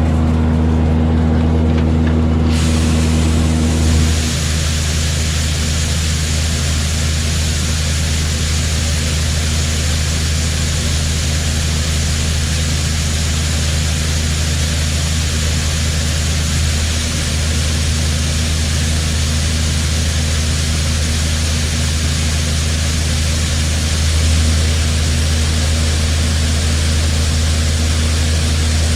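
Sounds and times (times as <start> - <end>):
combine harvester diesel hum: 0.0 - 28.9.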